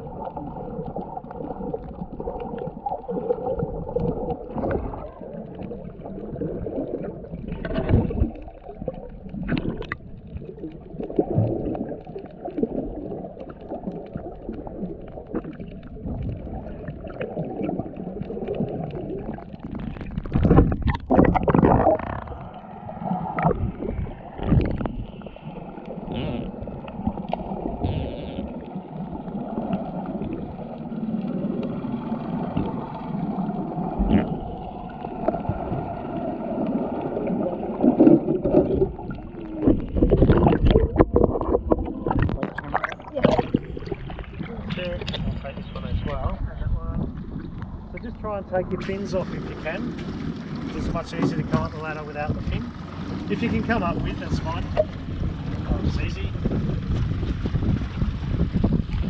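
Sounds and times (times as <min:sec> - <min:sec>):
muffled underwater gurgling: 0:00.0 - 0:59.0.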